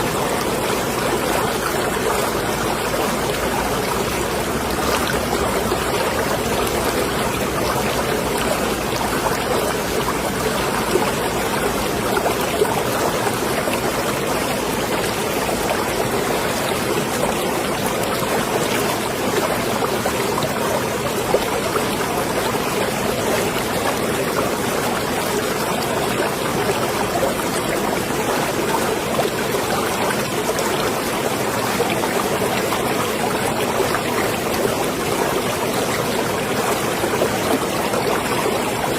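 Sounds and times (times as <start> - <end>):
small water splashes: 0.0 - 38.9
water lapping and trickling: 0.0 - 38.9.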